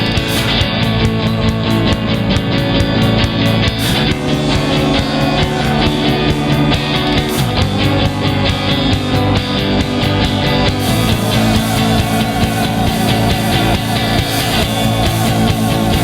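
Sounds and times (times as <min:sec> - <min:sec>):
bass guitar: 0:00.0 - 0:16.0
drums steady beat: 0:00.0 - 0:16.0
electric guitar: 0:00.0 - 0:16.0
instrumental rock music: 0:00.0 - 0:16.0.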